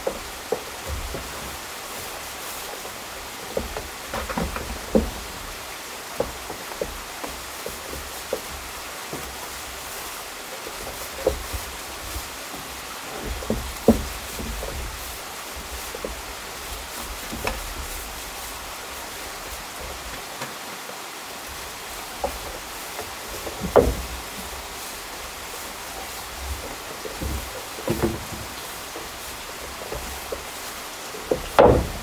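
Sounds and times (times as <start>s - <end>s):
knocks on wooden plank deck: 0.0s - 9.6s, 10.6s - 18.0s, 22.1s - 24.6s, 25.5s - 32.0s
forest stream rushing: 0.0s - 32.0s.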